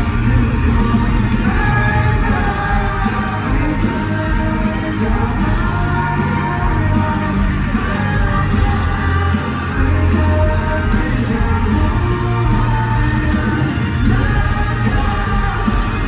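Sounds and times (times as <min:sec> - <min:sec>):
live rock band with singing: 0:00.0 - 0:16.0.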